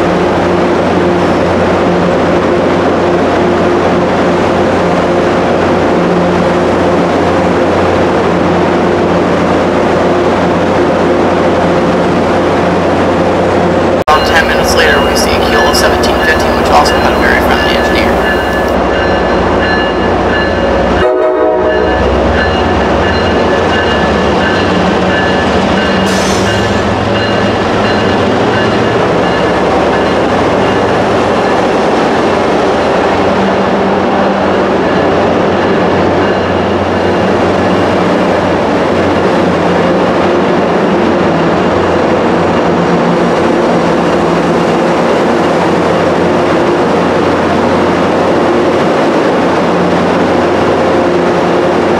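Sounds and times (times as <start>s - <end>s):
diesel locomotive engine rumble: 0.0s - 51.9s
train rolling-stock noise: 0.0s - 51.9s.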